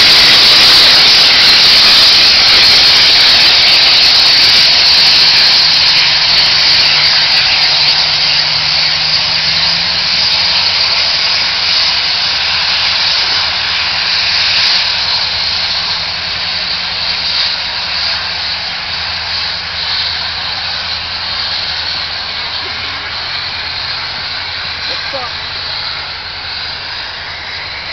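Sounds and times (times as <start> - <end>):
steam locomotive hissing roar: 0.0 - 27.9.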